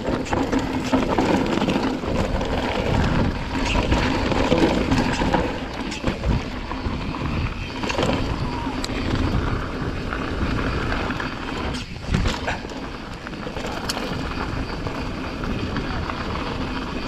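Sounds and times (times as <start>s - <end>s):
bike knocking and rattling: 0.0s - 17.0s
tyres crunching over loose rock: 0.0s - 17.0s
wind rumble on microphone: 0.0s - 17.0s.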